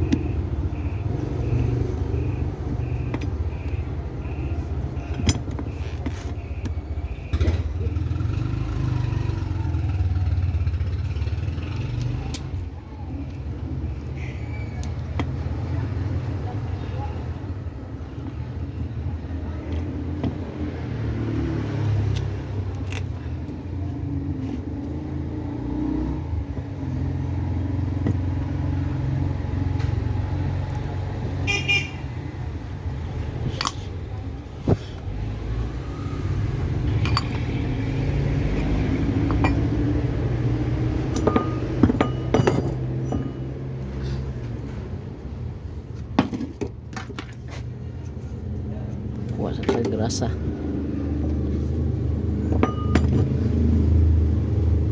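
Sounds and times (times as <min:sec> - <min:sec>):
road traffic hum: 0:00.0 - 0:54.9.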